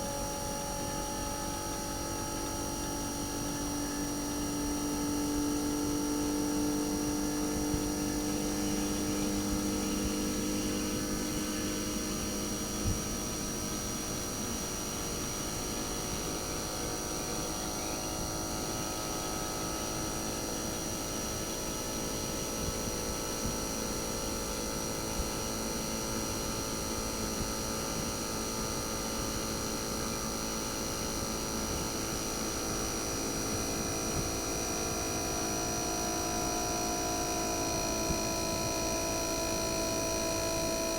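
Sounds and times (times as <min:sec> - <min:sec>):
air conditioner compressor humming: 0:00.0 - 0:40.9.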